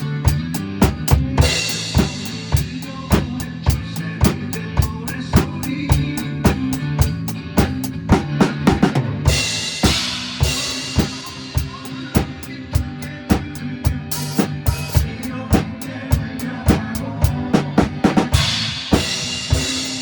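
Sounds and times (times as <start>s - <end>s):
drum kit beat: 0.0s - 20.0s
sustained bass line: 0.0s - 20.0s.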